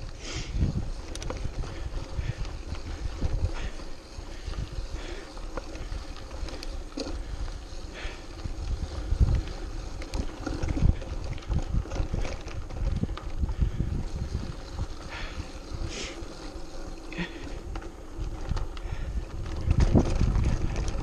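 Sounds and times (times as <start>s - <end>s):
bike tyres on rocky dirt: 0.0s - 21.0s
wind buffeting microphone: 0.0s - 21.0s.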